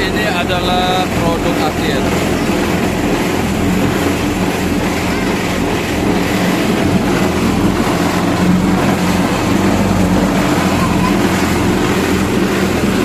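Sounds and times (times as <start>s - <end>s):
machine engine running: 0.0s - 13.0s.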